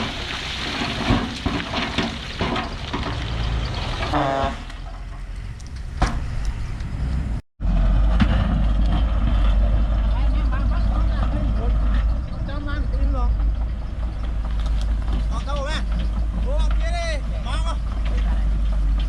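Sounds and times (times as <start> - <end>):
heavy diesel machinery clattering: 0.0 - 19.0
low diesel rumble: 0.0 - 19.0.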